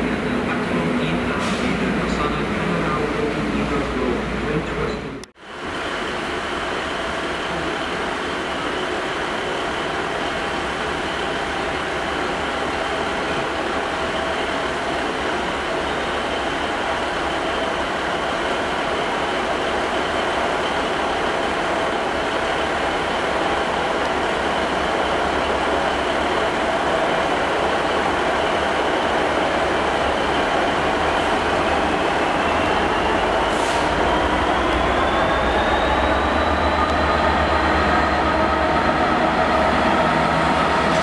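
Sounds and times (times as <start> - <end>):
diesel locomotive engine: 0.0 - 41.0.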